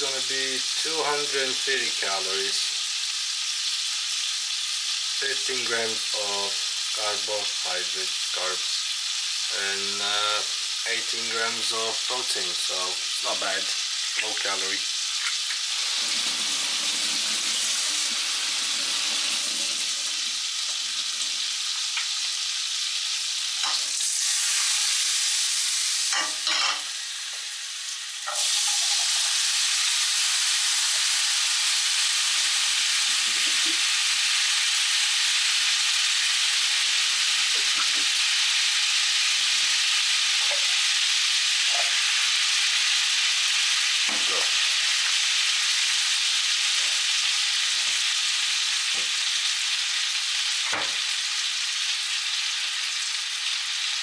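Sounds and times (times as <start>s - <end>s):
beans sizzling in a pan: 0.0s - 54.0s.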